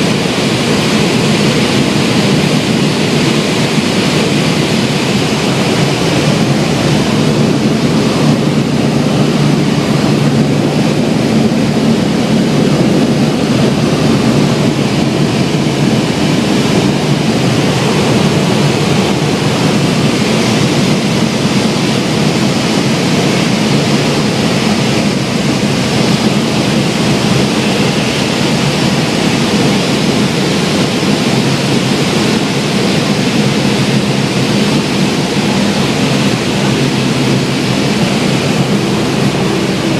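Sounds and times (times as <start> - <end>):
piston engine and propeller droning: 0.0 - 39.9
rush of air: 0.0 - 39.9.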